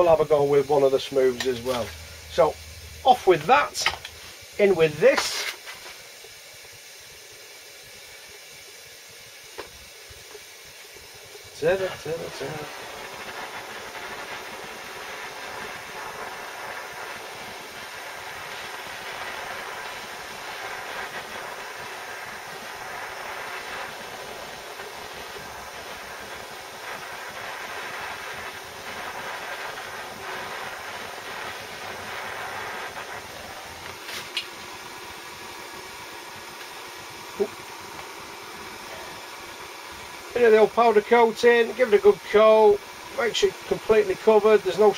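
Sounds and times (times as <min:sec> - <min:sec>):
blowtorch flame hissing: 0:00.0 - 0:44.9.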